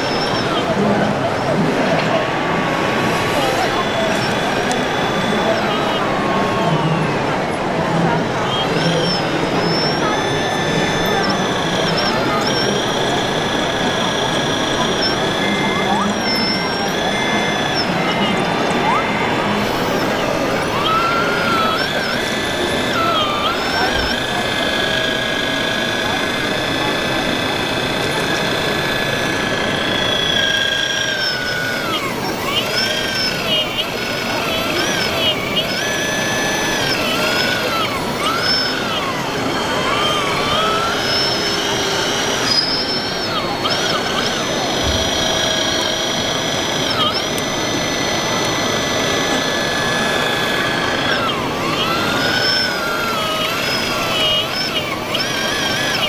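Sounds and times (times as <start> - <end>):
model excavator whine: 0.0 - 56.0.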